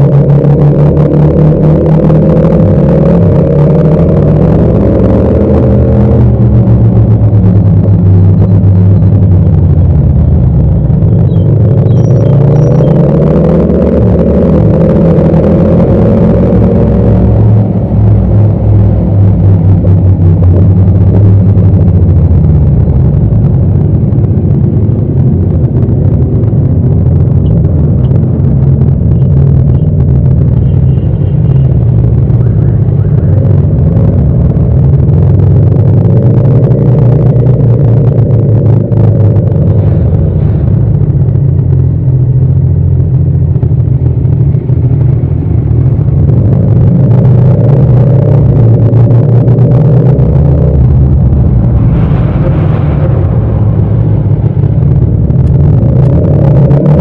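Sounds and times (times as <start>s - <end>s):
motorcycle engine rumble: 0.0s - 57.0s.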